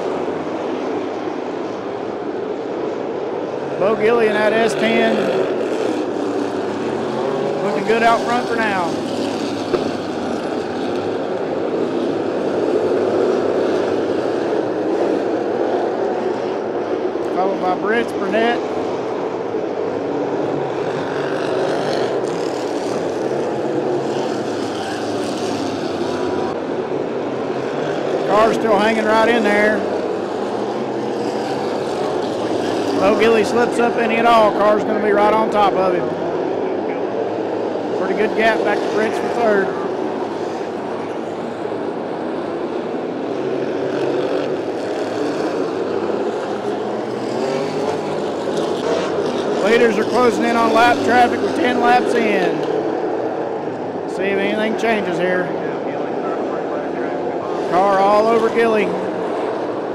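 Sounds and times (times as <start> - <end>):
race car engines at speed: 0.0 - 59.9.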